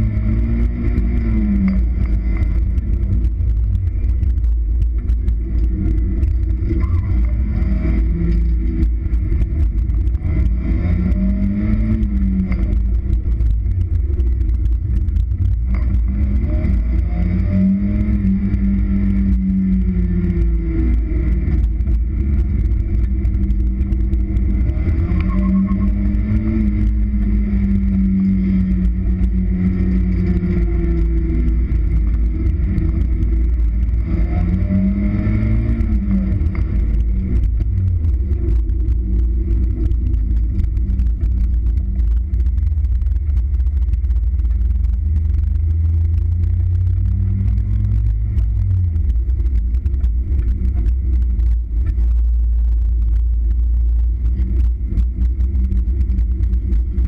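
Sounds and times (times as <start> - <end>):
car engine revving: 0.0 - 57.0
wind rumble on microphone: 0.0 - 57.0.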